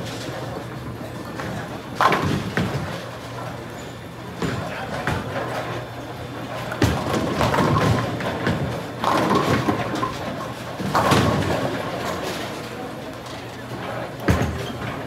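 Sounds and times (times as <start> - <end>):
bowling balls thudding and rolling: 0.0 - 12.8, 13.9 - 15.0.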